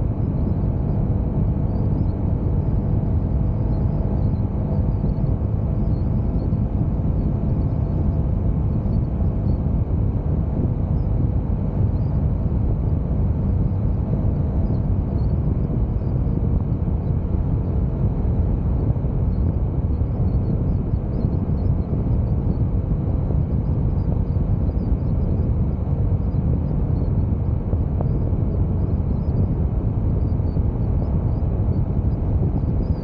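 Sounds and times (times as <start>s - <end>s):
wind and road noise: 0.0s - 33.0s.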